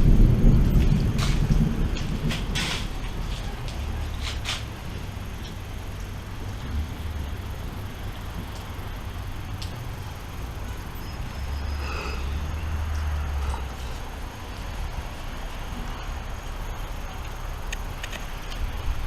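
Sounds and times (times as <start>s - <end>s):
thunder rumbling: 0.0s - 16.9s
rain hissing: 0.0s - 19.0s.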